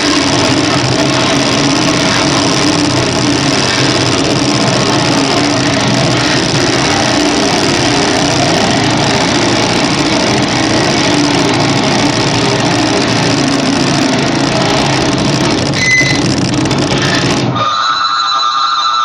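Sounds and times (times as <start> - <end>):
machine droning with rough buzz: 0.0 - 19.0.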